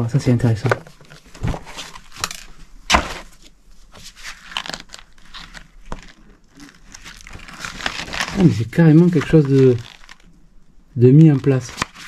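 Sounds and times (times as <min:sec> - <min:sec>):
paper rustling and crackling: 0:00.6 - 0:10.4, 0:11.1 - 0:12.0.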